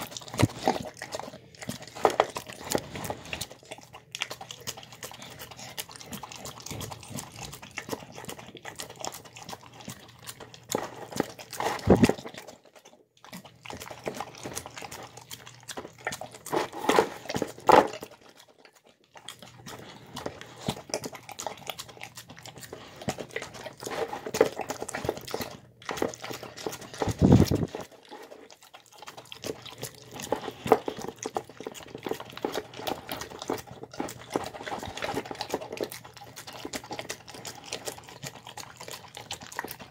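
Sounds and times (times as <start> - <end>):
dog chewing and licking food: 0.0 - 39.9.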